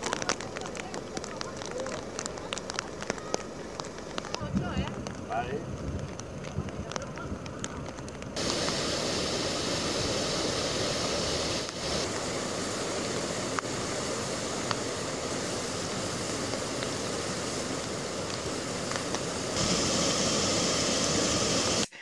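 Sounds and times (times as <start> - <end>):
water rushing over a weir: 0.0 - 5.4, 6.1 - 21.9.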